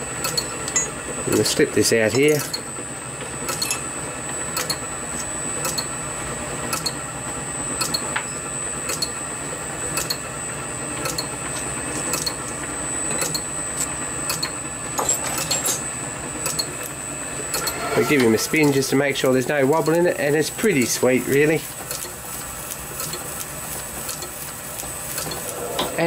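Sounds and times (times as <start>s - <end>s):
machine hum with whine: 0.0s - 26.0s.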